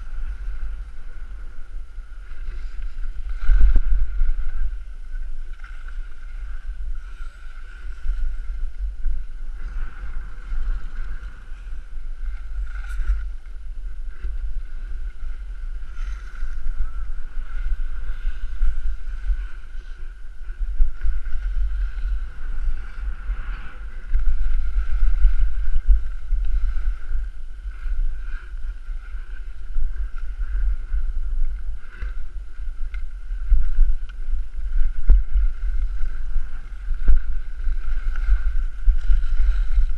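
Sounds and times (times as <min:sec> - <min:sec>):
skis scraping on snow: 0:00.0 - 0:39.9
wind buffeting microphone: 0:00.0 - 0:39.9.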